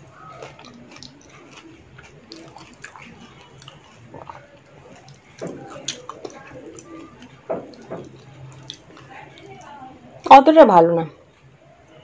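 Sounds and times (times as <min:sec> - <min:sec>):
crunchy shell crackles: 0:00.0 - 0:09.8
wet chewing and smacking: 0:00.0 - 0:10.3.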